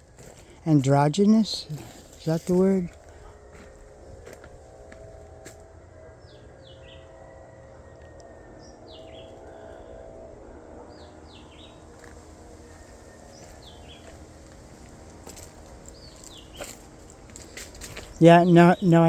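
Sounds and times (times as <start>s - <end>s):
steady low rumble: 0.0s - 19.0s
bird singing descending notes: 1.2s - 19.0s.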